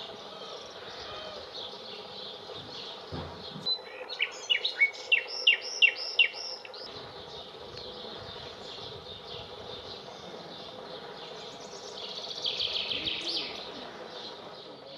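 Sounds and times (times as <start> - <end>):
chaffinch song: 0.0 - 14.9
songbirds singing: 0.0 - 14.9.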